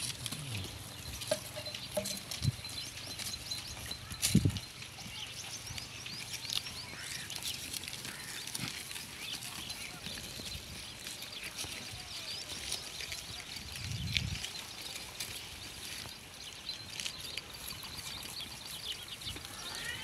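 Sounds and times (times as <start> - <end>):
goats chewing grass: 0.0 - 20.0.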